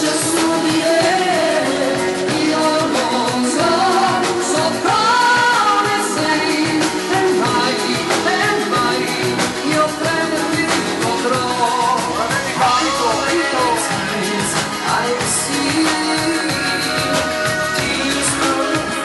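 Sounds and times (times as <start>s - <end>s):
live band playing pop ballad: 0.0s - 19.0s
man singing: 0.0s - 19.0s.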